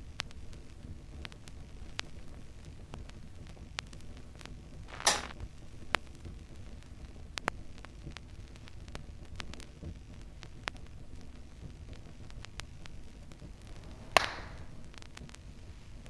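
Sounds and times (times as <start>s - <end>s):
faint clicks and crackles: 0.0s - 16.0s
low steady hum: 0.0s - 16.0s.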